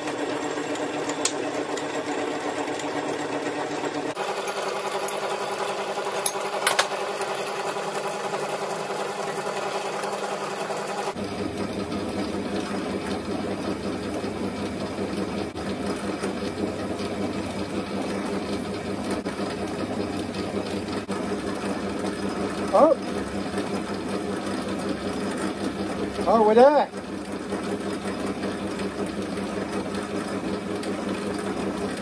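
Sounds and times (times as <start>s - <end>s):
lathe motor whirring: 0.0s - 32.0s.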